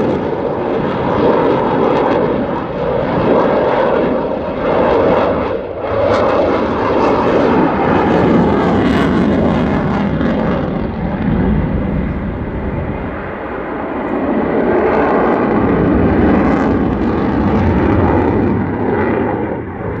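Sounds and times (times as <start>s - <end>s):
fighter jet flying: 0.0s - 20.0s.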